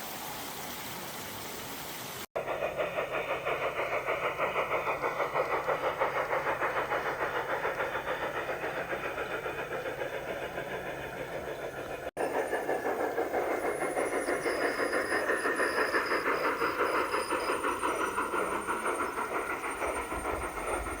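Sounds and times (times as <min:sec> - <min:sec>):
model train running: 0:02.3 - 0:21.0.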